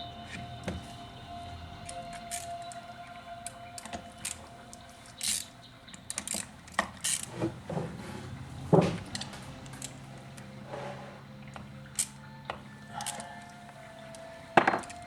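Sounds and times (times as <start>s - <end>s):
hand tools clicking on metal: 0.2s - 7.9s, 8.9s - 10.5s, 11.4s - 15.0s.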